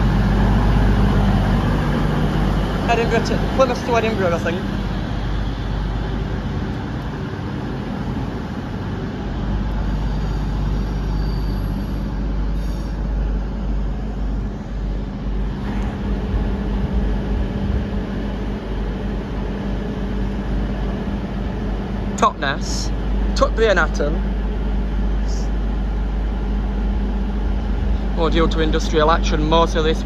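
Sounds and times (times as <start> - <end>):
train diesel engines idling: 0.0 - 30.0.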